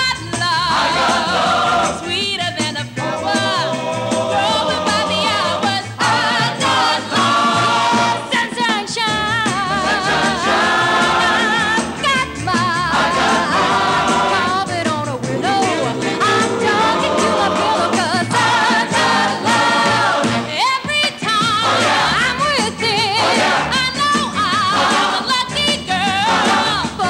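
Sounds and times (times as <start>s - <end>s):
instrumental backing music: 0.0s - 27.0s
voices singing in harmony: 0.2s - 20.6s, 21.4s - 27.0s.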